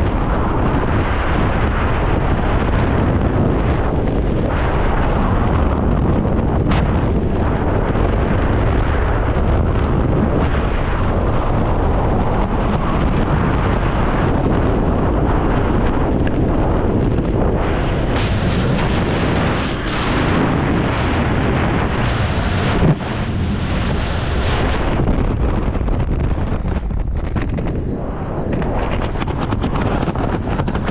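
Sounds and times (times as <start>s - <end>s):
wind roaring over microphone: 0.0s - 30.9s.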